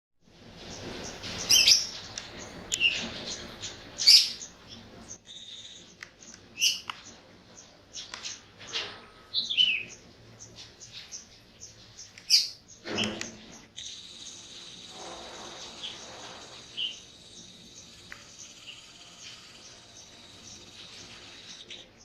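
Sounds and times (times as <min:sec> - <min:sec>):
birds chirping: 0:00.3 - 0:22.0
sharp bird calls: 0:00.6 - 0:22.0.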